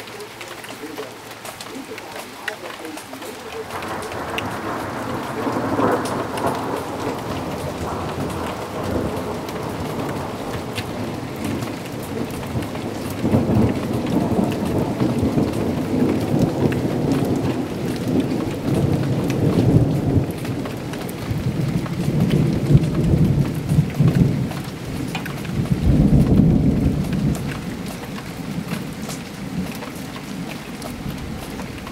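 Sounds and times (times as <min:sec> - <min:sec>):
heavy rain falling: 0:00.0 - 0:31.9
thunder rumbling: 0:00.0 - 0:31.9.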